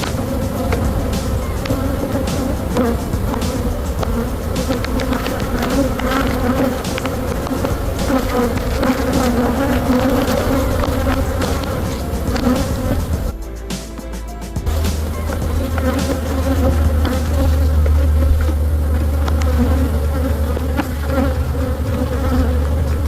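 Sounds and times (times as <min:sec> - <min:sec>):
honey bees buzzing: 0:00.0 - 0:23.0.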